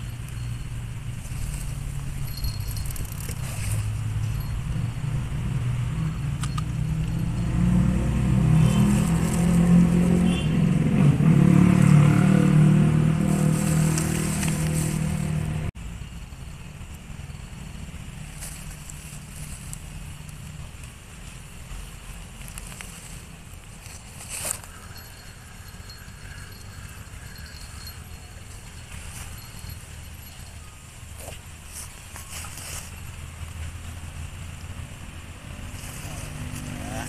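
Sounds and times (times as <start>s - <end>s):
motor engine humming: 0.0s - 37.0s.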